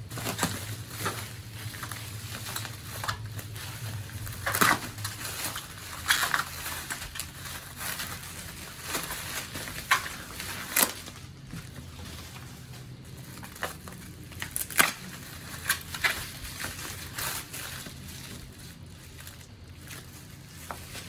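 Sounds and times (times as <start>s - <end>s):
paper and cardboard rustling: 0.0s - 21.0s
sharp packaging cracks: 0.1s - 11.4s, 13.2s - 21.0s.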